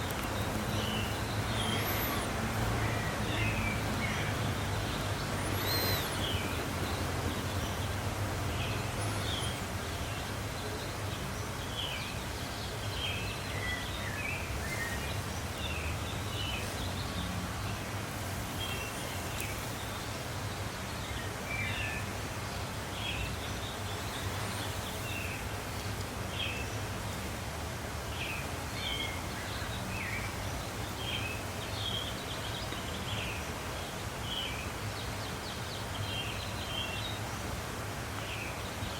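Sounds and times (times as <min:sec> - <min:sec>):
small birds chirping: 0:00.0 - 0:27.3, 0:28.0 - 0:38.9.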